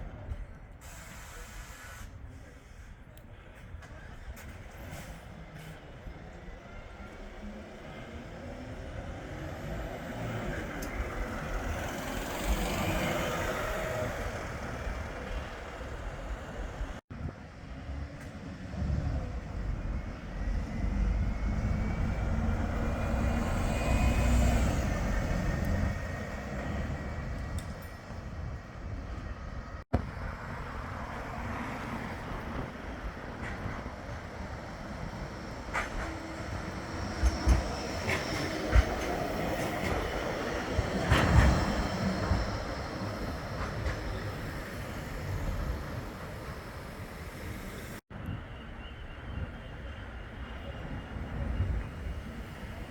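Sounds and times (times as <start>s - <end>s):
road traffic: 0.0s - 52.9s
trams passing: 0.0s - 52.9s.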